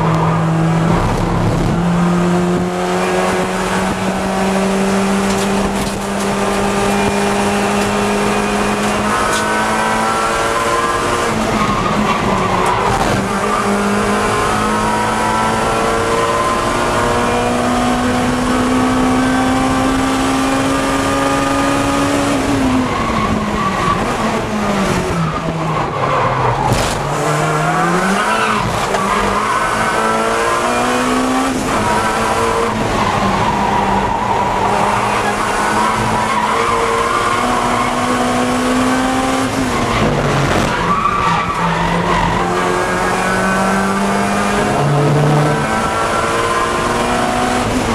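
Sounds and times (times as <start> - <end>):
race car engine accelerating: 0.0 - 47.9.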